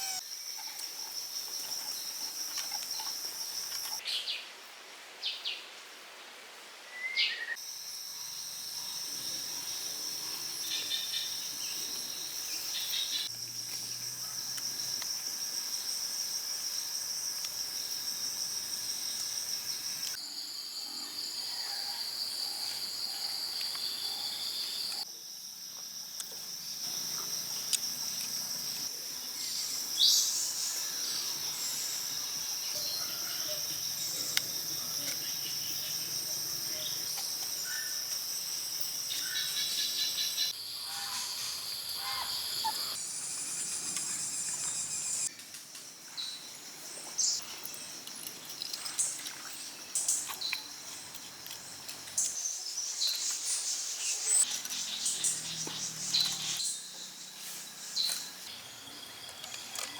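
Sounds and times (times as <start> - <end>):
high-pitched insect chorus: 0.0 - 4.0, 7.5 - 59.9.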